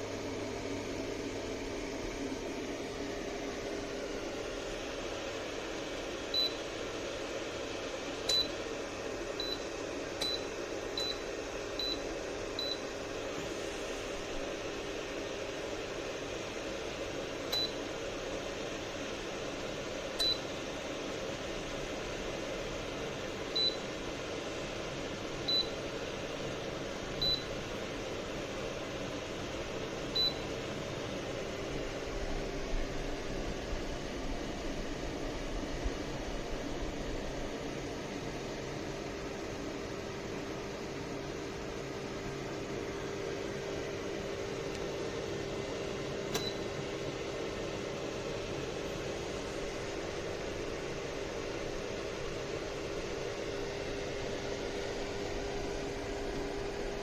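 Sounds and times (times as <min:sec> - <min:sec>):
fan heater hiss: 0:00.0 - 0:57.0.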